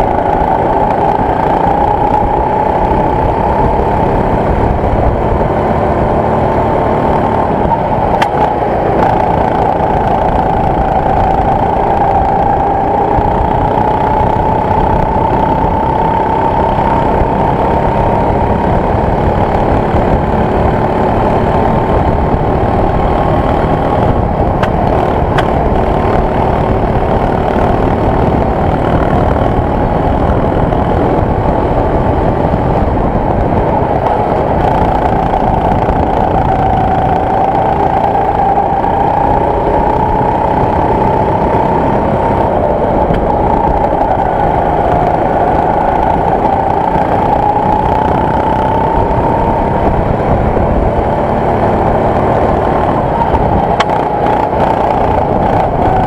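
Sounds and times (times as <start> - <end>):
go-kart engine droning: 0.0 - 56.0
rushing wind noise: 0.0 - 56.0.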